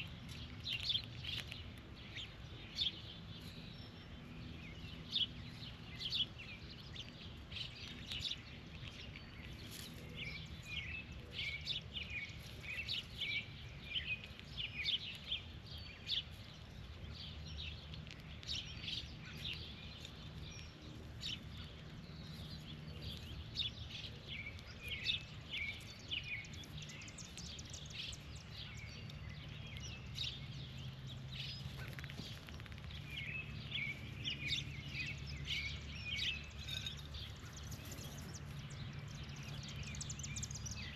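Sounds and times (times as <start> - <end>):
low background hum: 0.0 - 40.9
small birds chirping: 0.0 - 40.9.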